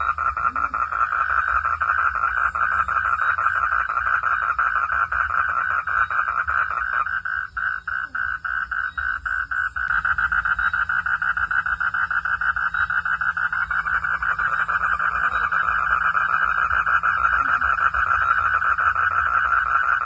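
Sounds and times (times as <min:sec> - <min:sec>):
frogs calling in chorus: 0:00.0 - 0:20.0.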